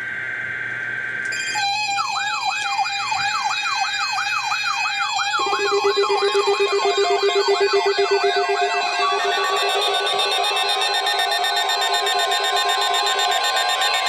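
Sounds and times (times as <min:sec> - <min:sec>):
warbling siren: 0:01.0 - 0:14.0
low steady alarm tone: 0:01.3 - 0:14.0.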